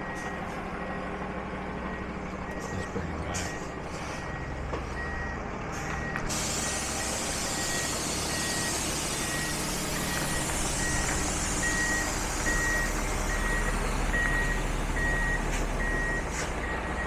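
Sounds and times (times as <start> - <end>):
truck engine running: 0.0 - 17.0
truck reversing alarm beeping: 0.0 - 17.0.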